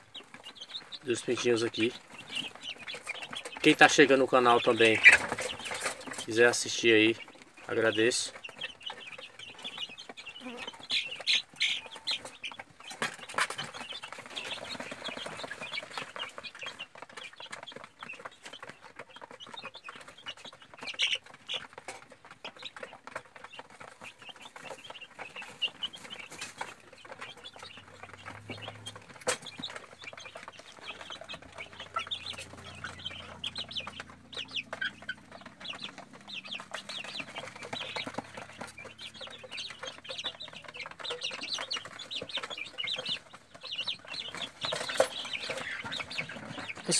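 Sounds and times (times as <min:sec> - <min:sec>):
chicks peeping: 0:00.0 - 0:46.9.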